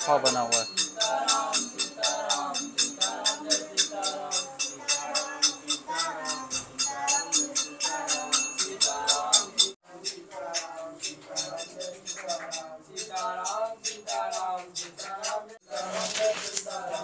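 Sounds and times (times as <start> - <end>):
jingling metal percussion: 0.0 - 17.0
devotional singing: 0.9 - 17.0.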